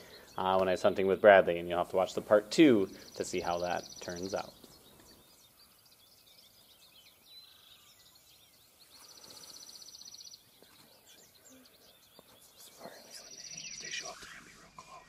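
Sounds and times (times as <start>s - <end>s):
bird chirps: 0.0s - 15.0s
songbird rapid trill: 0.0s - 15.0s.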